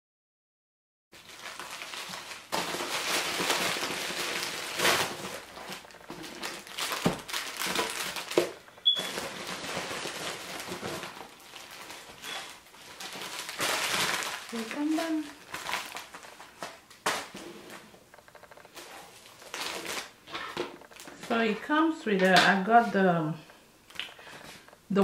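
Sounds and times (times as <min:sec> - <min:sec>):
plastic packaging crinkling: 0:01.2 - 0:24.9.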